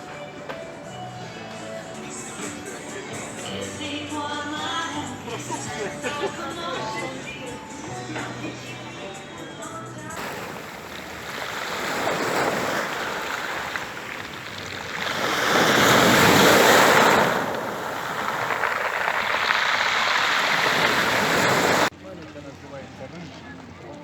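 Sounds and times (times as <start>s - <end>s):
sea waves surging: 0.0s - 9.4s, 10.1s - 21.9s.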